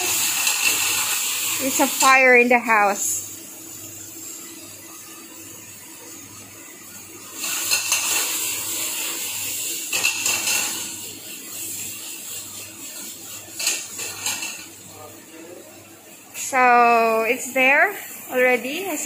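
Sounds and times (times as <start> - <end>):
vegetables sizzling in a frying pan: 0.0 - 19.0.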